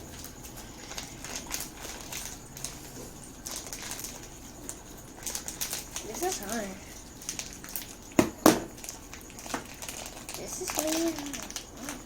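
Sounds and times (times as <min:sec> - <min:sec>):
package clicks and crinkly rustles: 0:00.1 - 0:12.0.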